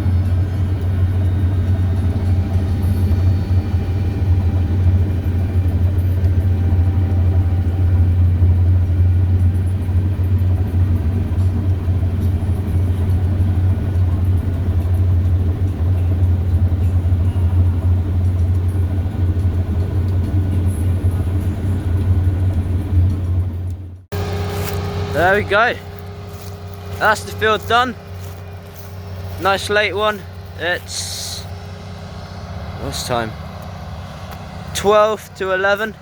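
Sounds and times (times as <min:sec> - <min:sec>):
faint steady whines: 0:00.0 - 0:36.0
machinery engine droning: 0:00.0 - 0:36.0.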